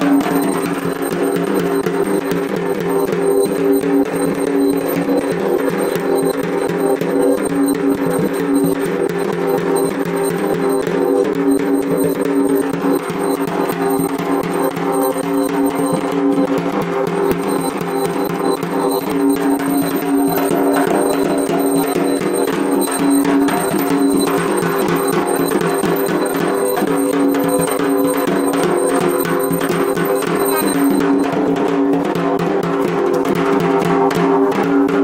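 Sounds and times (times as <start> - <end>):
droning notes: 0.0 - 31.5
fast steady percussion: 0.0 - 35.0.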